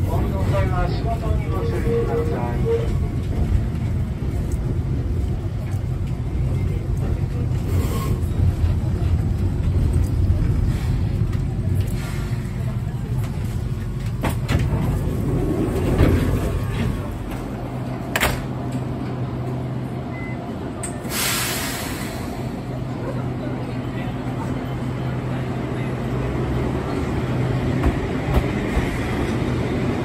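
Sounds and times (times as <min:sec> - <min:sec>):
electric train interior rumble: 0:00.0 - 0:30.0.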